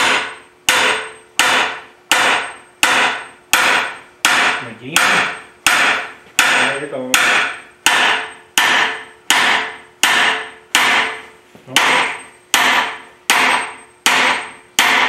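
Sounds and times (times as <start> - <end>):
hammer striking metal: 0.0 - 15.0.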